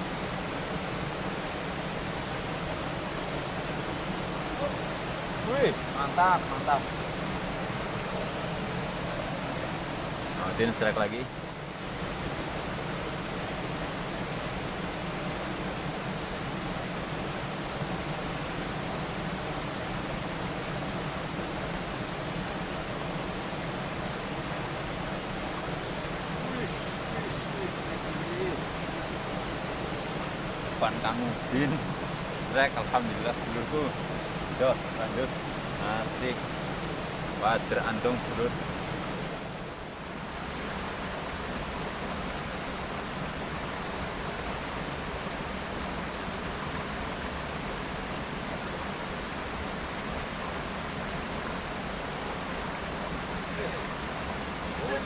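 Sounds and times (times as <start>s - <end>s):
water rushing over small cascade: 0.0s - 55.0s.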